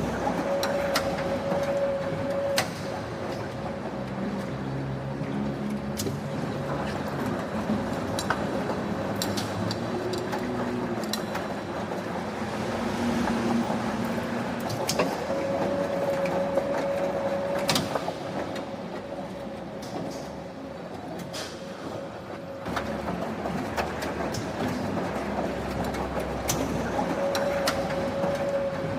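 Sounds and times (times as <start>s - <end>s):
factory machinery humming: 0.0s - 28.9s.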